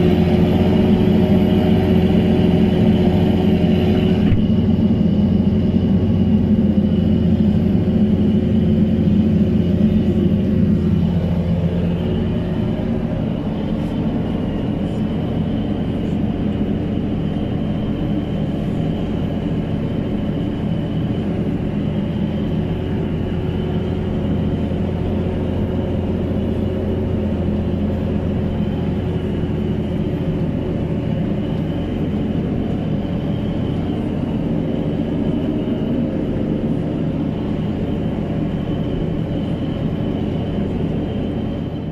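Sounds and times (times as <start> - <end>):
tractor engine droning: 0.0 - 41.9.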